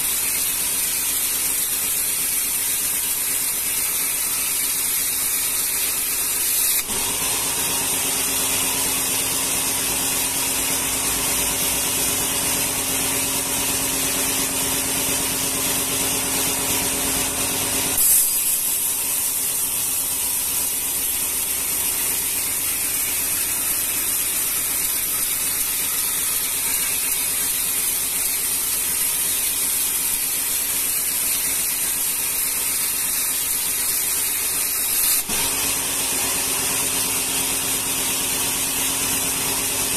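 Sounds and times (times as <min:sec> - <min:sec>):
band saw blade hissing through wood: 0:00.0 - 0:39.9.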